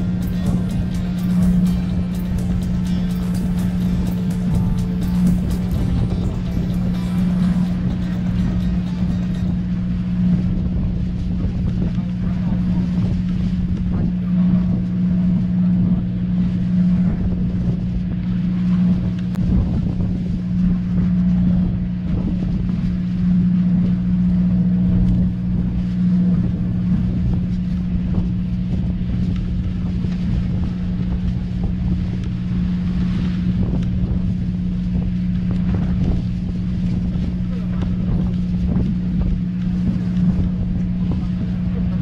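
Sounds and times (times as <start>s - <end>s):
boat engine humming: 0.0s - 42.0s
wind buffeting microphone: 0.0s - 42.0s.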